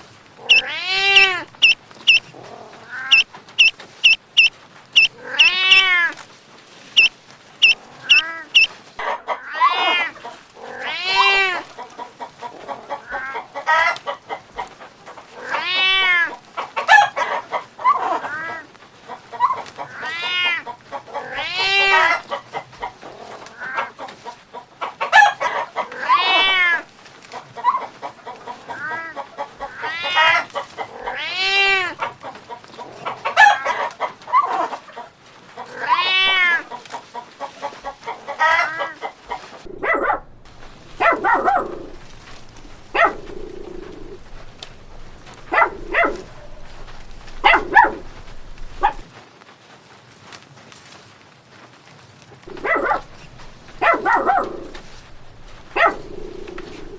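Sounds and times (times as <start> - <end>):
chickens clucking and squawking: 0.4 - 5.9, 7.0 - 49.1, 52.5 - 56.9.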